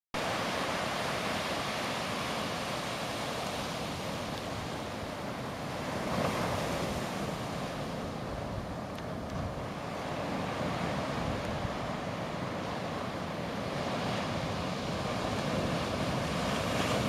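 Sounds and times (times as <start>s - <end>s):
waves breaking and washing in: 0.2s - 17.0s
wind on microphone: 0.2s - 17.0s.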